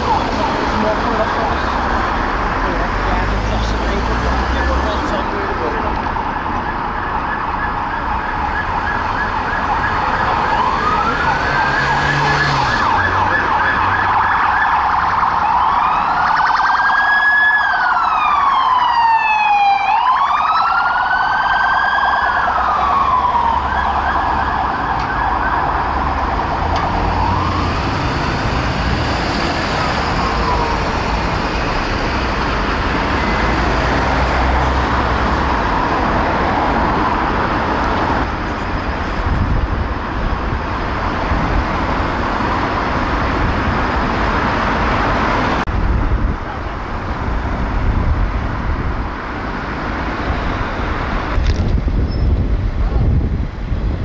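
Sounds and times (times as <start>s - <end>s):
police sirens yelping and wailing: 0.0s - 51.4s
traffic noise: 0.0s - 54.0s.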